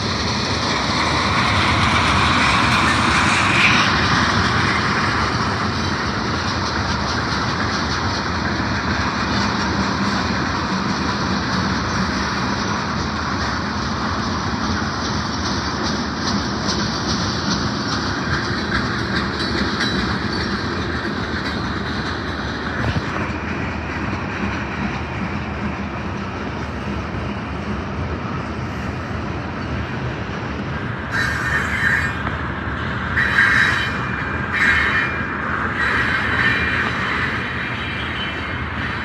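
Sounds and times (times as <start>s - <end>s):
train wheels rumbling on rails: 0.0s - 39.0s
wheels clacking over rail joints: 0.0s - 39.0s.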